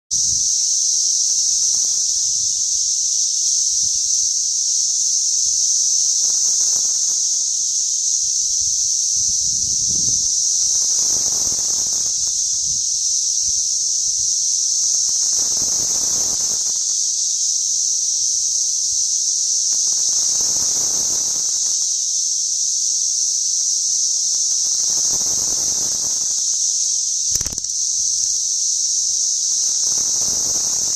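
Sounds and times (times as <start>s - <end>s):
cicadas droning: 0.1s - 30.9s.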